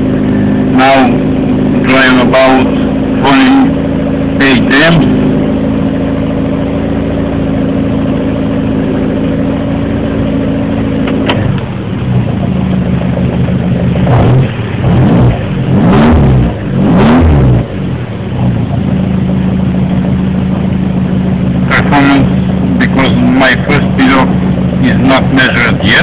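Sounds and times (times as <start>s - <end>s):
car engine idling: 0.0s - 26.0s
car engine revving: 0.0s - 26.0s.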